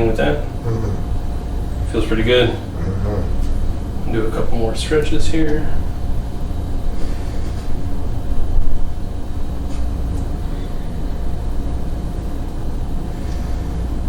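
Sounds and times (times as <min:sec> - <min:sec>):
faint constant hum: 0:00.0 - 0:14.0
steady low rumble: 0:00.0 - 0:14.0.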